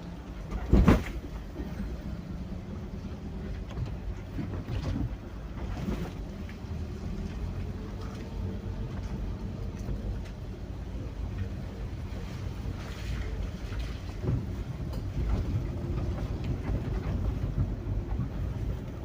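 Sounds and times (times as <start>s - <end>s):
rain and wind rumble: 0.0s - 19.0s
wind buffeting microphone: 3.7s - 19.0s.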